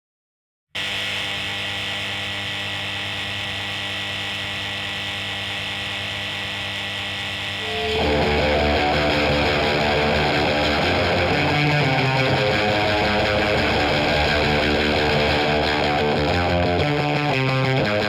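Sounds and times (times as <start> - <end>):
distorted electric guitar music: 0.8 - 18.0
electric hum: 0.8 - 18.0.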